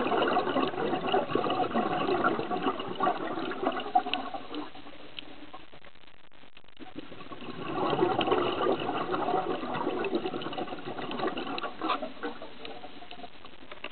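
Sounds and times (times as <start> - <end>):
underwater breath bubbles gurgling: 0.0 - 5.6, 6.8 - 13.9.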